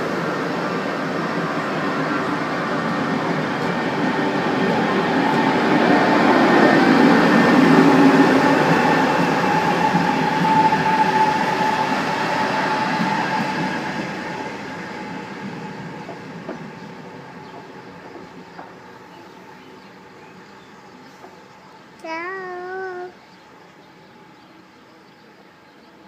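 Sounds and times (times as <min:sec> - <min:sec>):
steady train whine: 0:00.0 - 0:26.0
train rumble passing: 0:00.0 - 0:26.0.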